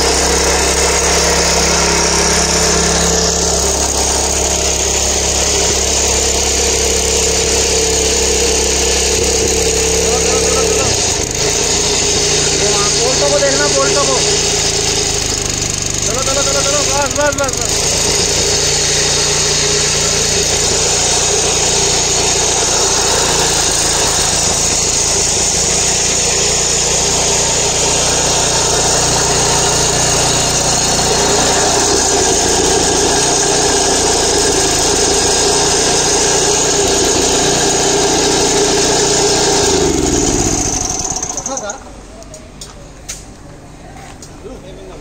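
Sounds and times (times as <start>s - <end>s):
small petrol engine running: 0.0s - 42.7s.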